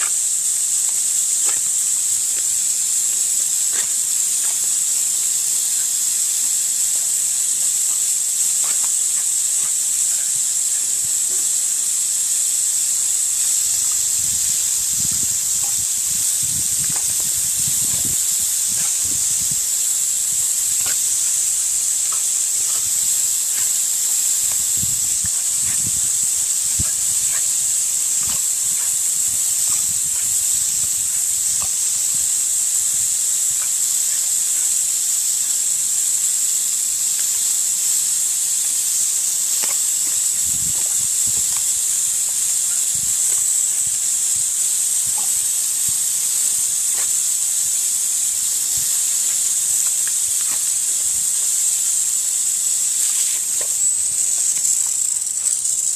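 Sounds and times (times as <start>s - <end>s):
hose nozzle spraying water: 0.0s - 55.9s.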